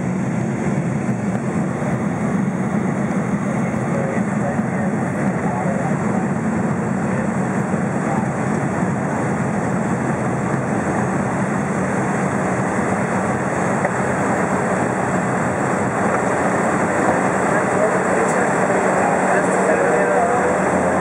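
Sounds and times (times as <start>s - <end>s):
plane engine and propeller drone: 0.0s - 21.0s.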